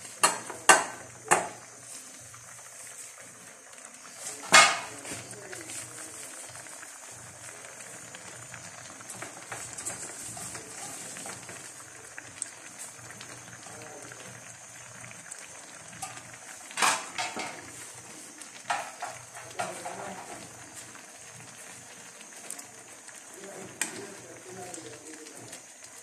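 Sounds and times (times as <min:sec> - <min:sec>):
spatula stirring leaves in wok: 0:00.0 - 0:13.7, 0:14.4 - 0:26.0.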